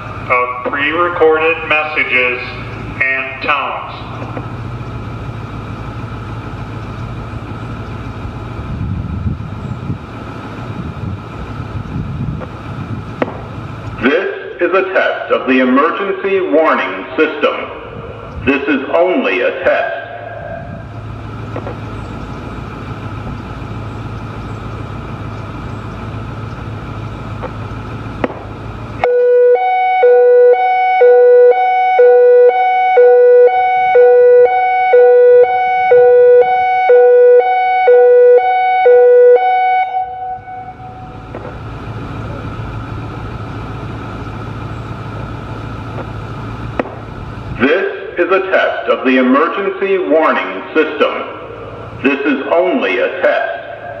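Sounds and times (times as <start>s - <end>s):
hi-lo warning siren: 0.0s - 52.0s.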